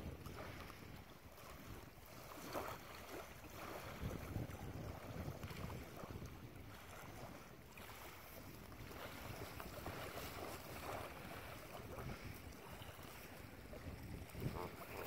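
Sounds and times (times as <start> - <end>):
small waves lapping on pebbles: 0.0 - 15.0
wind buffeting microphone: 0.0 - 15.0.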